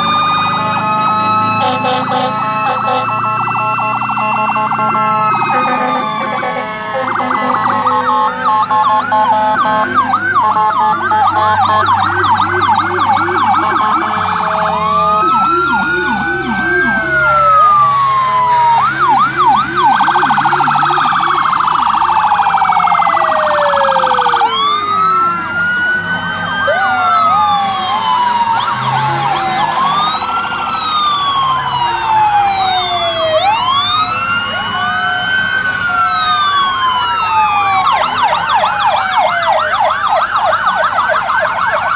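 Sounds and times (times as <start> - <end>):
fire engine sirens wailing: 0.0 - 41.9.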